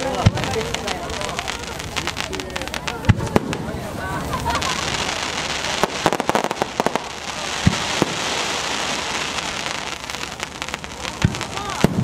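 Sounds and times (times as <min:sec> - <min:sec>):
firework shell booming: 0:00.0 - 0:12.0
fireworks crackling hiss: 0:00.0 - 0:12.0
fireworks sharp cracks: 0:00.0 - 0:12.0.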